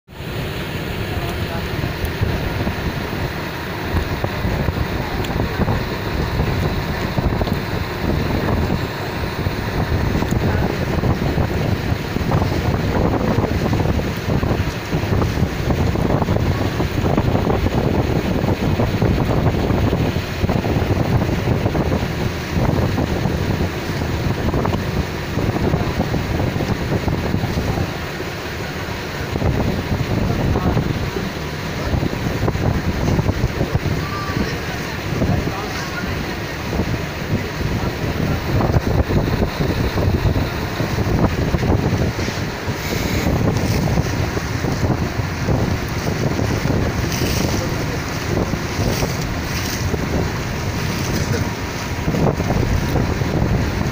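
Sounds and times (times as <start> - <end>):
choppy river water: 0.0 - 53.9
wind buffeting microphone: 0.1 - 53.9.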